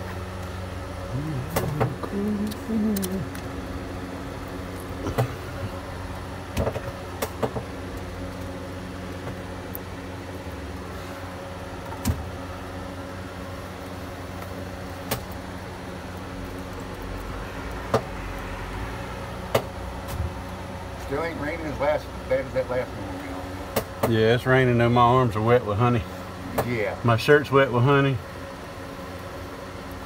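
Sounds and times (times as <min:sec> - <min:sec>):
motor-like hum: 0:00.0 - 0:30.0.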